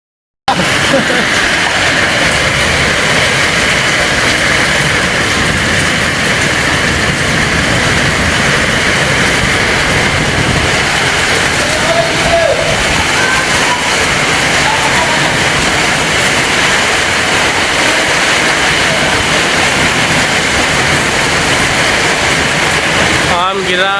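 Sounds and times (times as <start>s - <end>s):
strong storm wind blowing: 0.5s - 23.9s.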